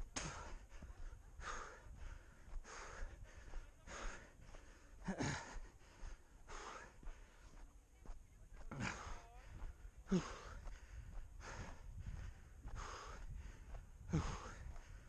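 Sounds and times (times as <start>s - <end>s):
runner breathing heavily: 0.0s - 15.0s
steady low rumble: 0.0s - 15.0s.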